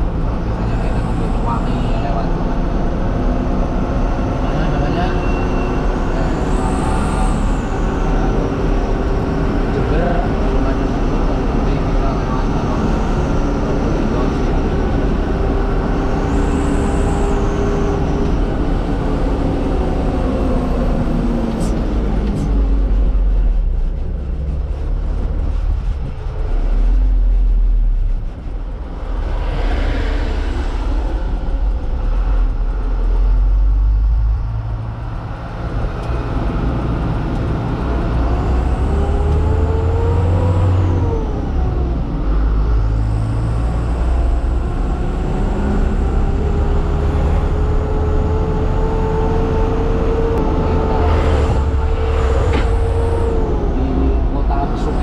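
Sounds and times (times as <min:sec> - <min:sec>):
truck engine rumbling with whine: 0:00.0 - 0:55.0.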